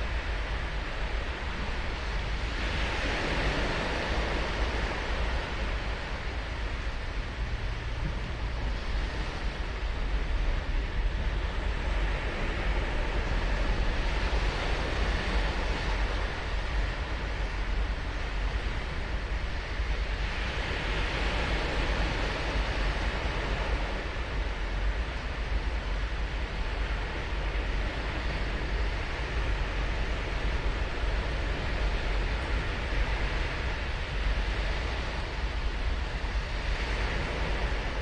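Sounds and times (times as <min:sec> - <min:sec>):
ocean surf breaking: 0:00.0 - 0:38.0.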